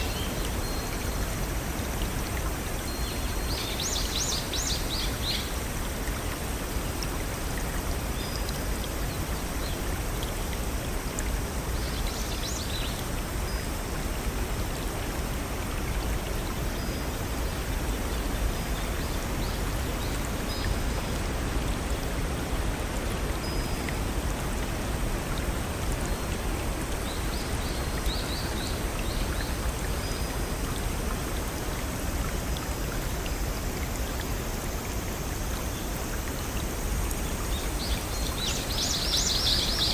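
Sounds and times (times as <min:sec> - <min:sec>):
water rushing in brook: 0:00.0 - 0:39.9.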